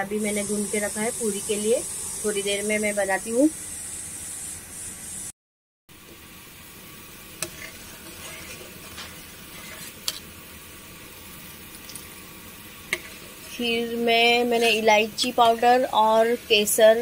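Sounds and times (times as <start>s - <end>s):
pot simmering with a hiss: 0.0s - 5.3s, 6.0s - 17.0s.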